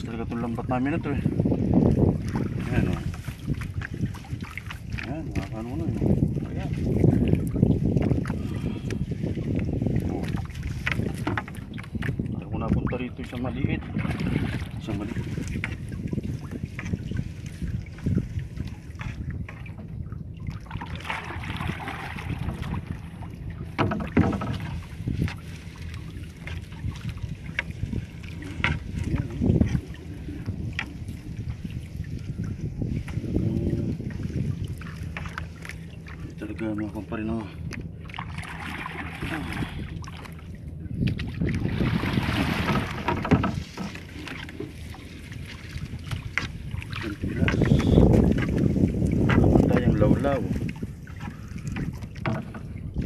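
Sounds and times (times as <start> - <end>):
wind on microphone: 0.0 - 53.0
water splashing and dripping: 1.5 - 37.0, 37.6 - 53.0.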